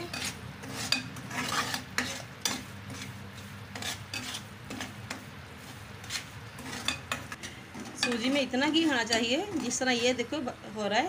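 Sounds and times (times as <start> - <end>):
metal spoon scraping a pan: 0.0 - 10.2
light sizzle: 0.0 - 11.0.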